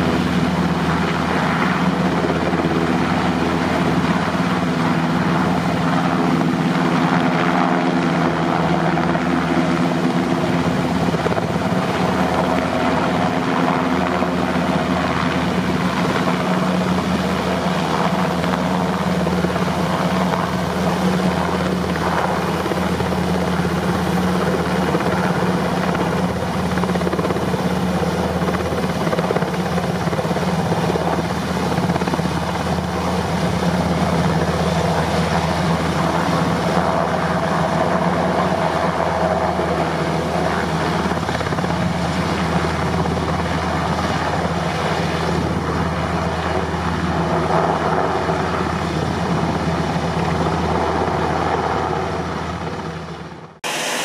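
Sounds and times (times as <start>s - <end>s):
helicopters in flight: 0.0s - 54.0s.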